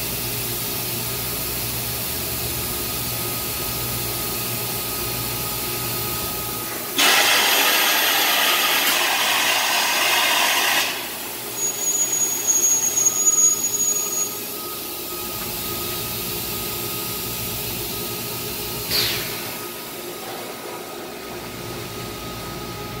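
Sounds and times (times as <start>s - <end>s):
industrial machinery humming: 0.0s - 23.0s.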